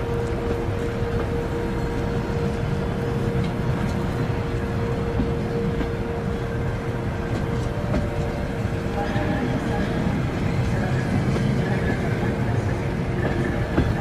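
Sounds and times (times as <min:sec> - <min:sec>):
train coaches rumbling past: 0:00.0 - 0:14.0.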